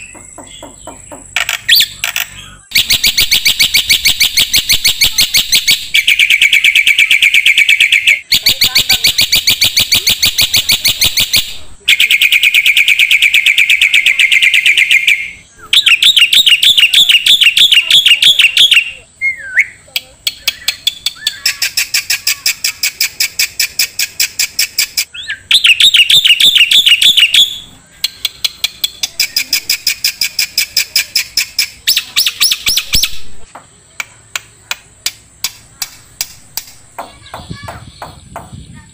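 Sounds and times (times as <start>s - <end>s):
songbird singing fast trills: 0.0s - 33.3s.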